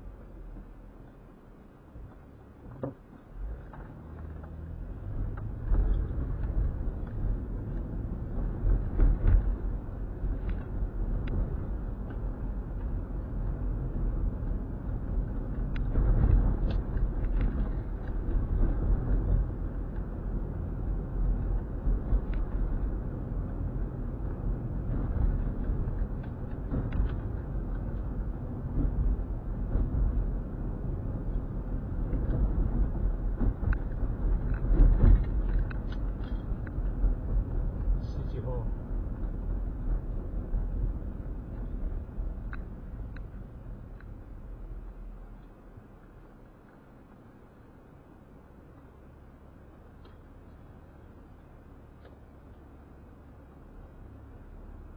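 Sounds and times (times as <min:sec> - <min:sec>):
engine and tyre rumble: 0:00.0 - 0:54.9.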